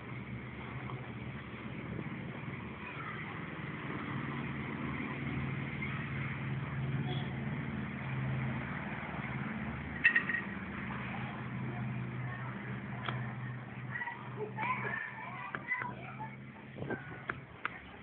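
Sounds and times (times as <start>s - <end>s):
low hum of road traffic: 0.0s - 18.0s.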